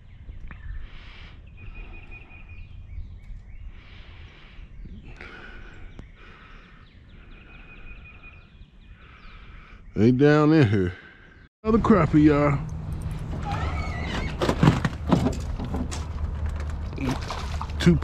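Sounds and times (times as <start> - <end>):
songbirds chirping and singing: 0.0 - 14.6.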